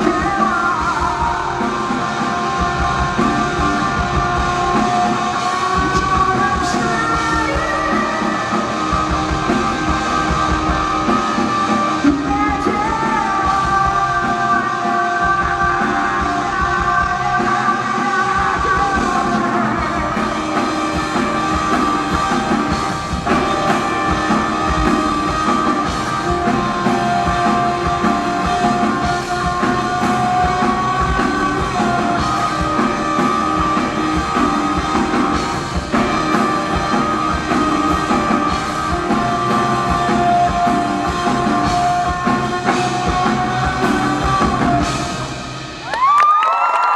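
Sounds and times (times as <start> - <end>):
bass guitar: 0.0 - 46.2
drum kit: 0.0 - 46.9
electric guitars: 0.0 - 46.9.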